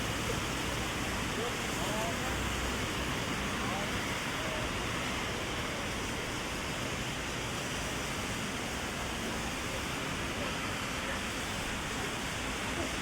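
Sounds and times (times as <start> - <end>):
heavy rain on an umbrella: 0.0 - 13.0.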